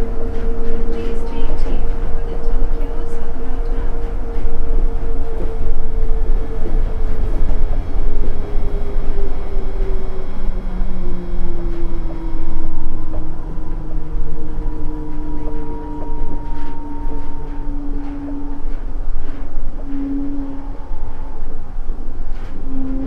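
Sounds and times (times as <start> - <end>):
train car rumbling: 0.0 - 23.0.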